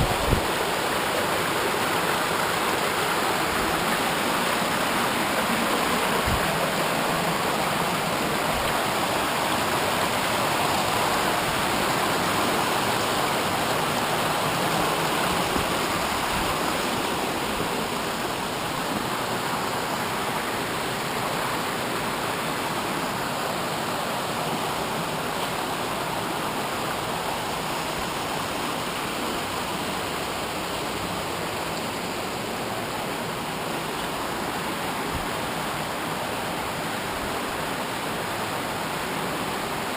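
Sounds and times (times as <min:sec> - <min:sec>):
waterfall water rushing: 0:00.0 - 0:39.9.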